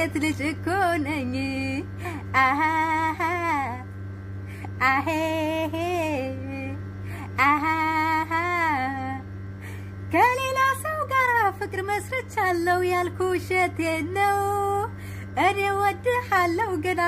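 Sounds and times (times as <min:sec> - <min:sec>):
woman singing ornamented phrases: 0:00.0 - 0:03.9, 0:04.7 - 0:09.2, 0:10.1 - 0:17.0.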